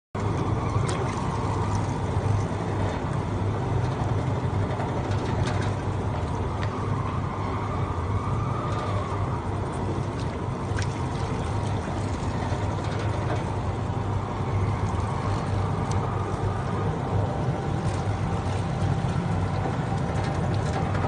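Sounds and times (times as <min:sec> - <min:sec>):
machine motor hum: 0:00.2 - 0:21.0.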